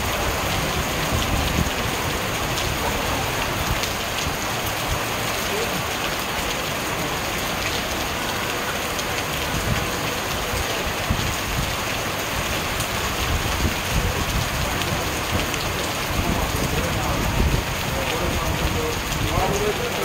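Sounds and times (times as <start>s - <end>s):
heavy rain on cars and street: 0.0s - 20.0s.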